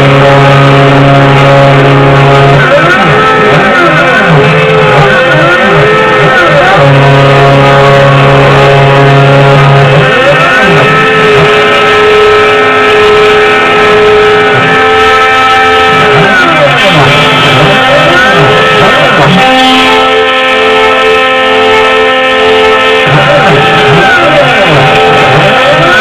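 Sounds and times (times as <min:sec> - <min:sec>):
steady machine tones: 0:00.0 - 0:26.0
stepper motors whining: 0:00.0 - 0:26.0.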